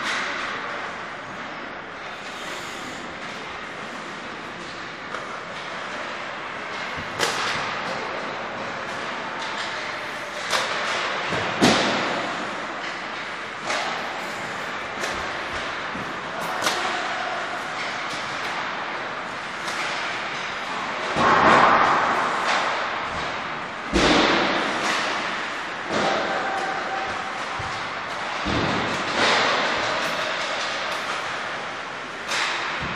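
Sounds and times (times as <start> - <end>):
pucks hit by sticks: 0.0 - 32.9
pucks knocking against boards: 3.0 - 32.9.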